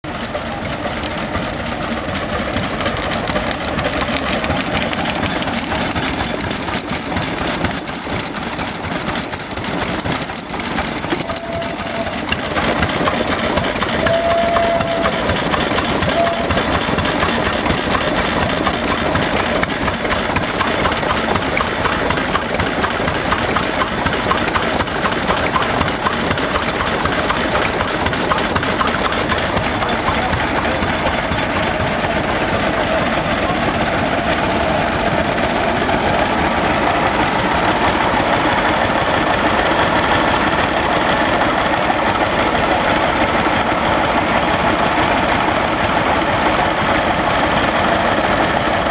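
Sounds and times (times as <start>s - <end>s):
stationary engines running: 0.0s - 48.9s.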